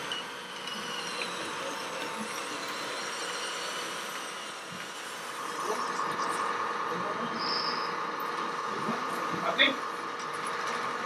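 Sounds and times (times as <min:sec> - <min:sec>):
small electric motor whine: 0:00.0 - 0:09.2
background chatter: 0:00.7 - 0:11.0.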